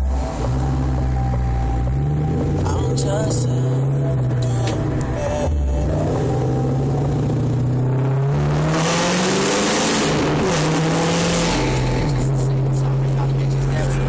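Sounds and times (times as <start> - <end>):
car engine revving inside cabin: 0.0 - 14.0
loud exhaust rush: 0.0 - 14.0.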